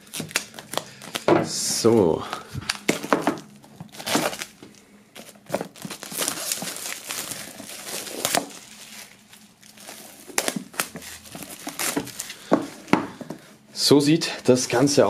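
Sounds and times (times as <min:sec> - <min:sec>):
plastic shrink-wrap crinkling: 0:00.0 - 0:13.4.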